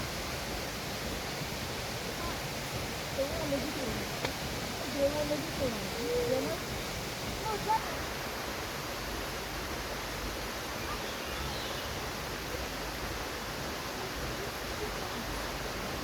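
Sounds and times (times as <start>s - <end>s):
rush of flowing water: 0.0s - 16.0s.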